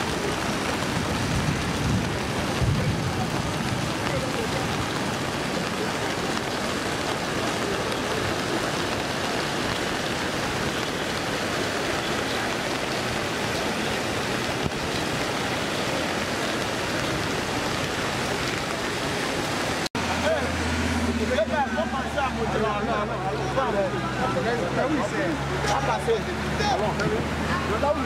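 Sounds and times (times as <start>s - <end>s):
floodwater streaming over road: 0.0s - 28.0s
heavy rain: 0.0s - 28.0s.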